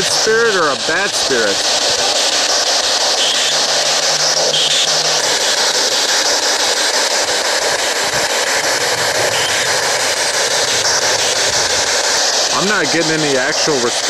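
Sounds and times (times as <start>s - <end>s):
stuttering radio static: 0.0s - 14.0s.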